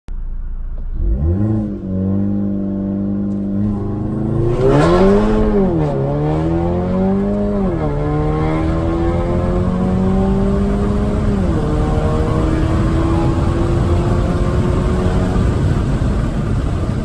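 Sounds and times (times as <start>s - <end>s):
car engine revving: 0.2s - 17.0s.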